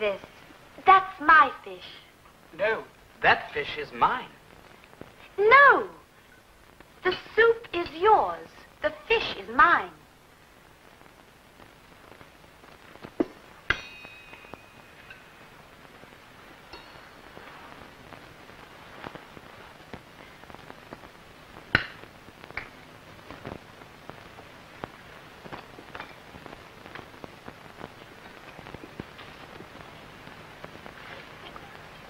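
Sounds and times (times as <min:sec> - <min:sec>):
faint hiss: 0:00.0 - 0:32.0.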